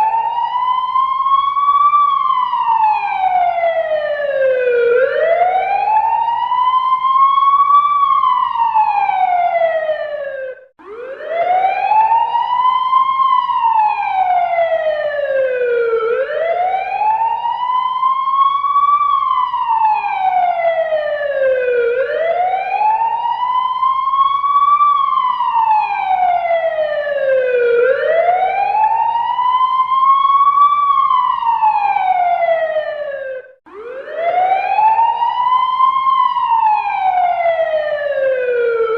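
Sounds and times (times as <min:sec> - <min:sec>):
fire truck siren wailing: 0:00.0 - 0:38.9.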